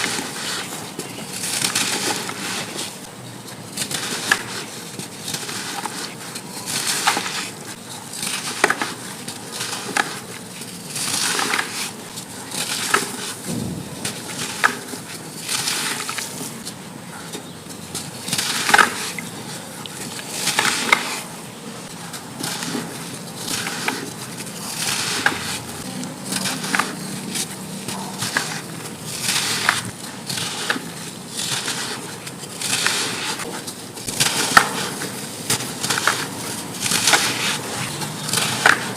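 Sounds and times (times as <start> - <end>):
compacted sand crunching: 0.0 - 38.9.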